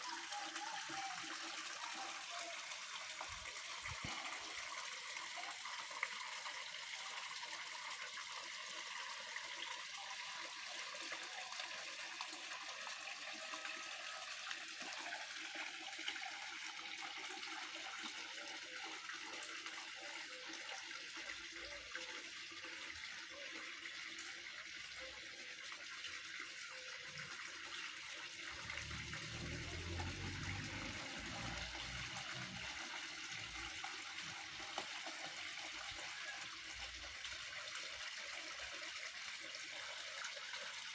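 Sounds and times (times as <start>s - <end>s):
water splashing and trickling: 0.0s - 40.9s.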